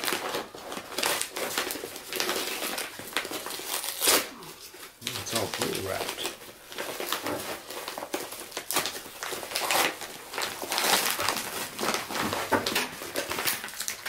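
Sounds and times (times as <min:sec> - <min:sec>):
packaging wrap tearing and crinkling: 0:00.0 - 0:14.0.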